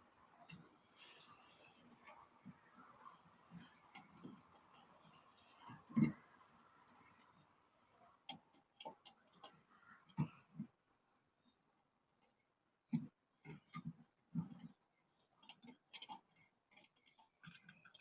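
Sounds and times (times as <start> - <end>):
light clicks and knocks: 0.4 - 10.8, 11.4 - 18.0.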